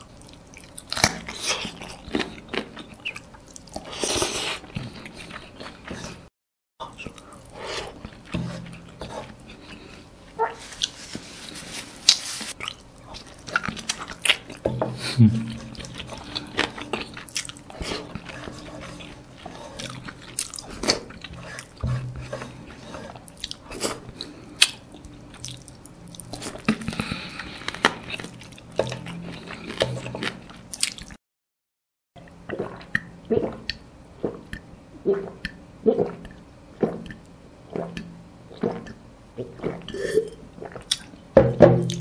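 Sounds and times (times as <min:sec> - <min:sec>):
person chewing food: 0:00.0 - 0:11.3, 0:12.0 - 0:31.2, 0:32.2 - 0:41.2.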